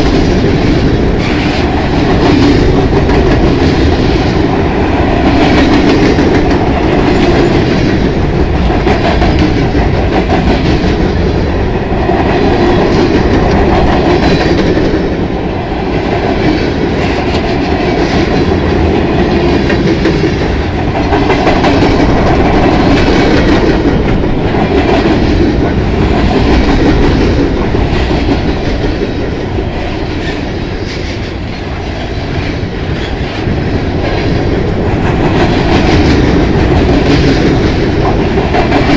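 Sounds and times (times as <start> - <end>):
freight train wheels rumbling on rails: 0.0 - 38.9.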